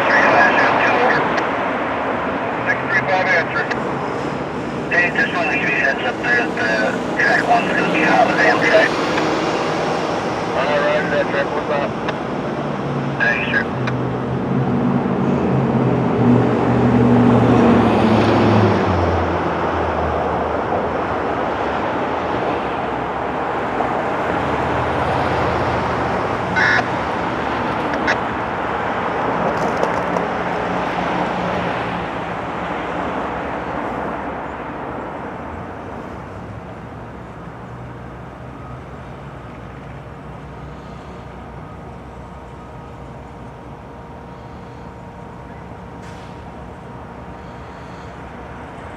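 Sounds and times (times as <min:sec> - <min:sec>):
diesel locomotives passing: 0:00.0 - 0:48.9
train rumble: 0:00.0 - 0:48.9.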